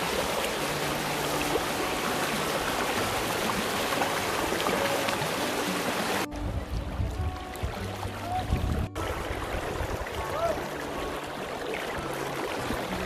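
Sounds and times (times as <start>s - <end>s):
river rapids rushing over stones: 0.0s - 13.0s.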